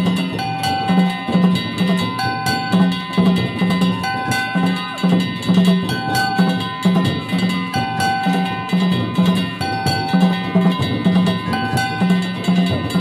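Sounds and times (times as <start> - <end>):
big drum beating: 0.0 - 13.0
hand gongs clanging: 0.0 - 13.0
high held tones: 0.0 - 13.0.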